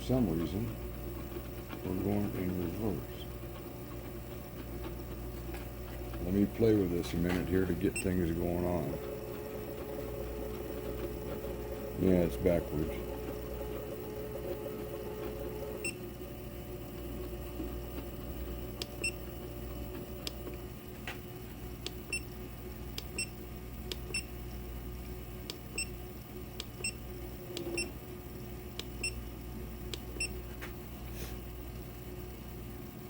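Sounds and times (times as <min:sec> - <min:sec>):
steady machine hum: 0:00.0 - 0:33.0.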